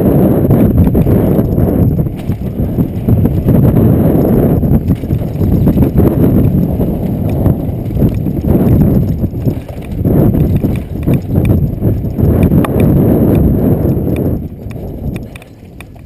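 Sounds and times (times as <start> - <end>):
bike rattling over bumps: 0.0 - 16.0
tyres and wind rumble: 0.0 - 16.0.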